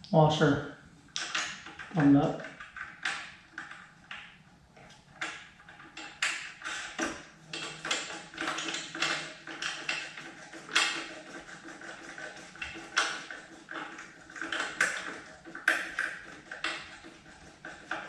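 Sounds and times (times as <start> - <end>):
metal parts tapping and clicking: 1.1 - 18.0.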